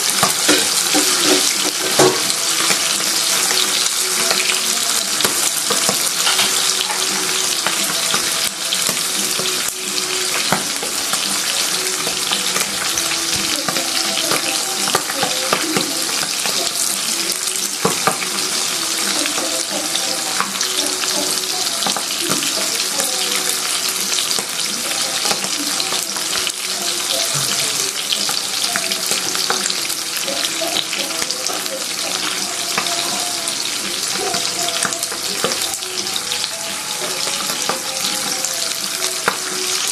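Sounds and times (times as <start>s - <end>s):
fish frying in hot oil: 0.0s - 39.9s
oil crackling and popping: 0.0s - 39.9s.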